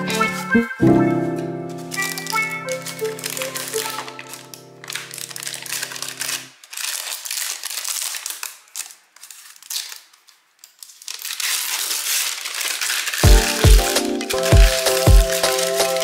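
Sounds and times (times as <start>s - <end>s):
plastic film crinkling: 0.0s - 16.0s.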